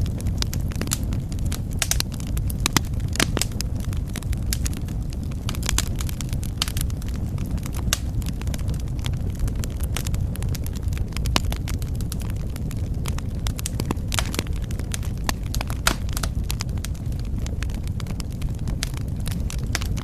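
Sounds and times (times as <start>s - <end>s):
wood fire burning: 0.0s - 20.0s.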